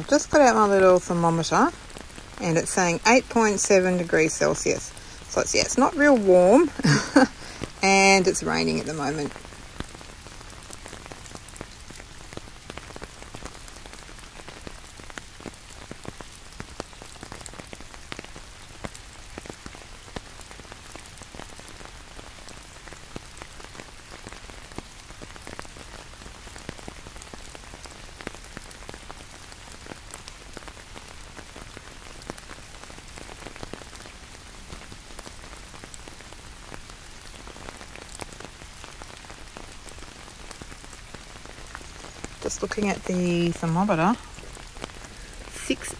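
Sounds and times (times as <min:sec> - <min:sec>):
raindrops ticking: 0:00.0 - 0:45.9
steady rain: 0:00.0 - 0:45.9.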